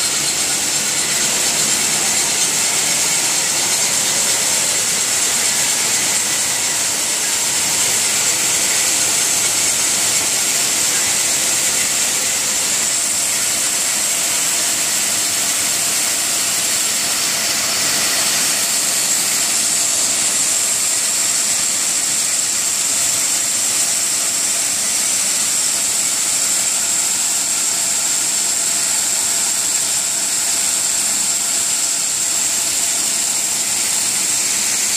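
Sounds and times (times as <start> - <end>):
paper machine whirring hiss: 0.0 - 34.9.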